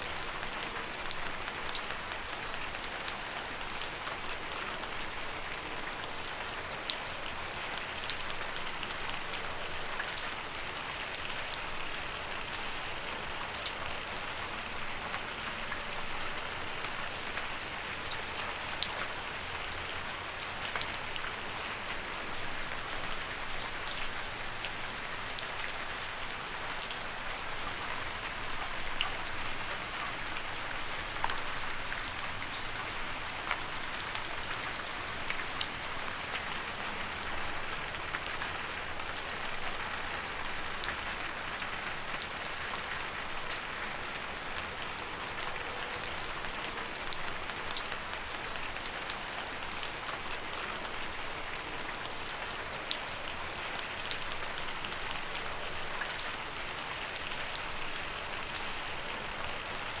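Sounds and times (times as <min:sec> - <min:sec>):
steady rainfall: 0:00.0 - 1:00.0.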